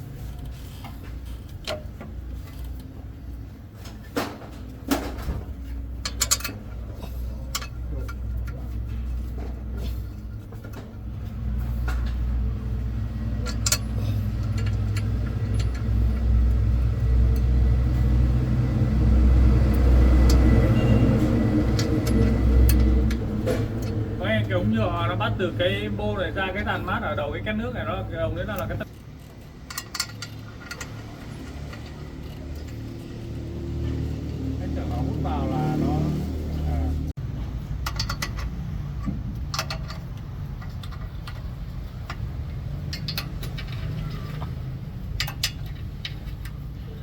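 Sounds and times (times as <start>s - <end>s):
truck diesel engine rumbling: 4.9s - 47.0s.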